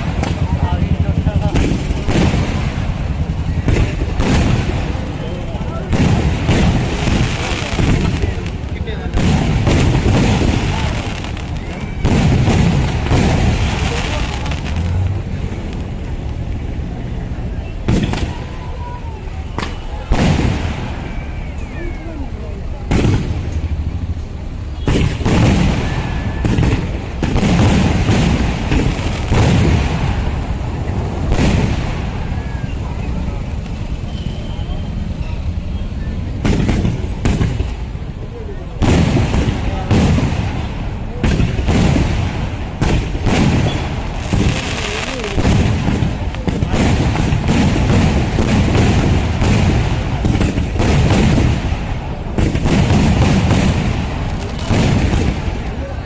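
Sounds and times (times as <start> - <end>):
loud fireworks blasts: 0.0 - 56.0.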